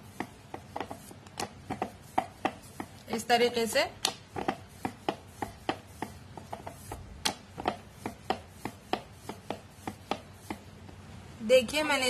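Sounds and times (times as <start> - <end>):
rolling pin knocking on board: 0.0 - 11.0.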